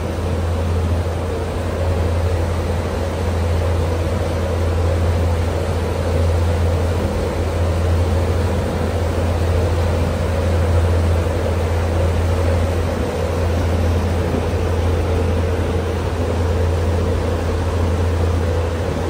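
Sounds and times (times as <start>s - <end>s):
boat engine humming: 0.0s - 19.0s
propeller wake rushing: 0.0s - 19.0s.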